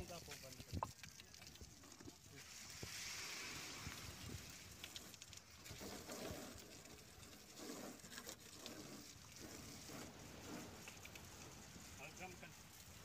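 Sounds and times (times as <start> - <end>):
hose water spraying: 0.0 - 13.0.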